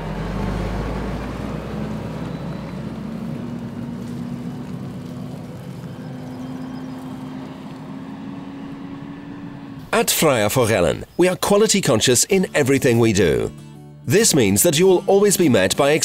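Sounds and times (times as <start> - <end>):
heavy lorry passing: 0.0 - 16.0.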